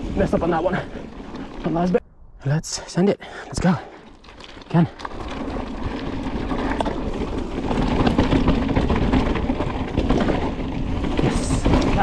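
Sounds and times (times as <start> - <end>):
bike tyres rushing on dirt: 0.0 - 2.0, 3.6 - 12.0.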